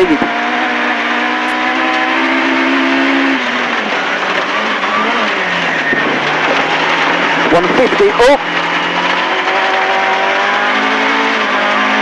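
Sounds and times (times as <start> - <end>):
car engine at high revs: 0.0 - 12.0
tyre and road noise: 0.0 - 12.0.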